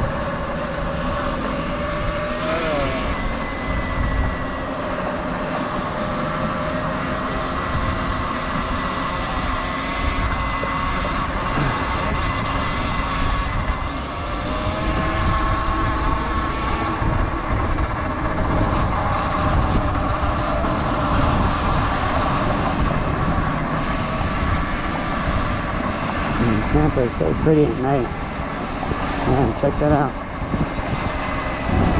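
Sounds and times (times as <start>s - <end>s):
electric motor whine: 0.0s - 31.9s
wind rumble on microphone: 0.0s - 31.9s.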